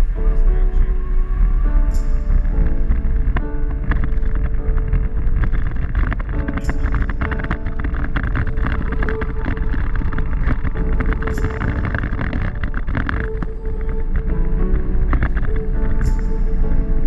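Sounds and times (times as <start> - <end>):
aircraft rolling rumble: 0.0 - 17.0.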